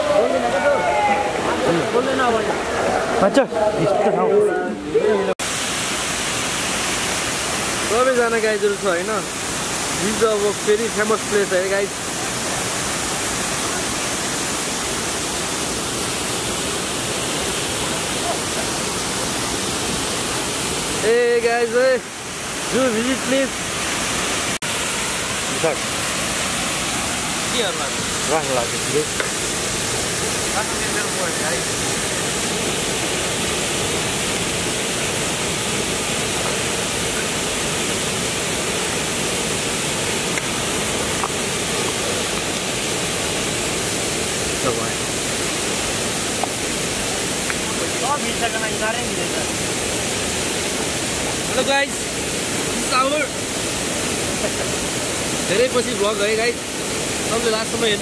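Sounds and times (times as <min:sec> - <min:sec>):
river water rushing over weir: 0:00.0 - 0:58.0.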